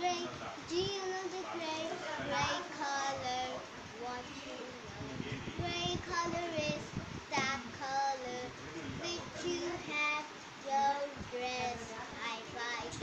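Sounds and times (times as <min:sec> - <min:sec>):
girl singing: 0:00.0 - 0:04.3, 0:05.6 - 0:13.0.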